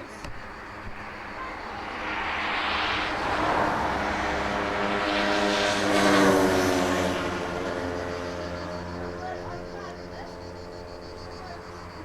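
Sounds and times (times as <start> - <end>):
engine passing by: 0.0 - 12.0.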